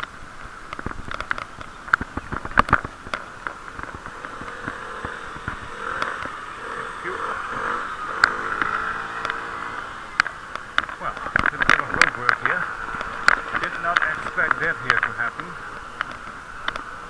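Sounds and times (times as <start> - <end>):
muffled riding noise hiss: 0.0 - 17.0
sharp clicks: 0.0 - 17.0.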